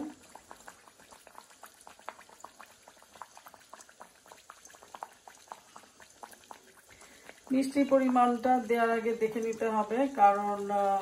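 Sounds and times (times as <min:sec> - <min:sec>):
oil crackling and popping: 0:00.0 - 0:11.0.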